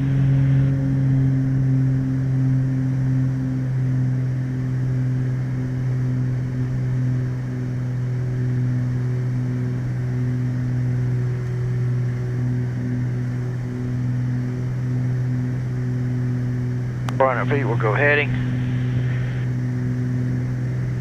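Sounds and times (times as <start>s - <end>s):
twin piston aircraft engines droning: 0.0s - 21.0s.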